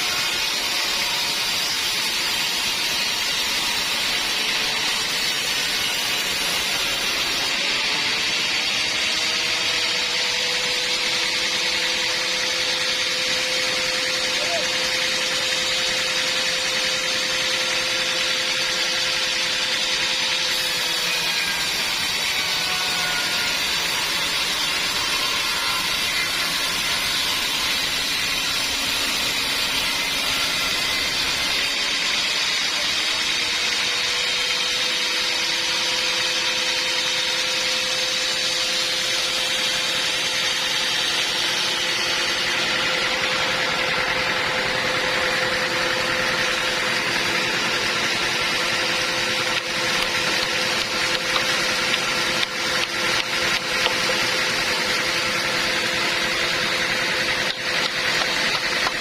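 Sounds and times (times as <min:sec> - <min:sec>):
band saw running: 0:00.0 - 0:59.0.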